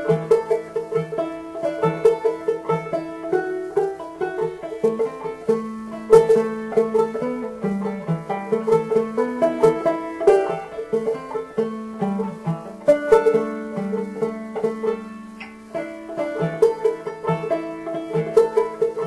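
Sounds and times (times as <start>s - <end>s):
banjo picking: 0.0s - 19.0s.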